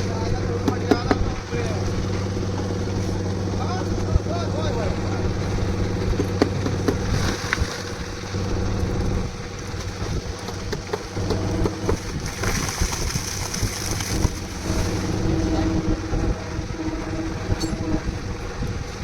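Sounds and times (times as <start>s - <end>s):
knocks and rattles: 0.0s - 16.5s
concrete mixer engine drone: 0.0s - 19.0s.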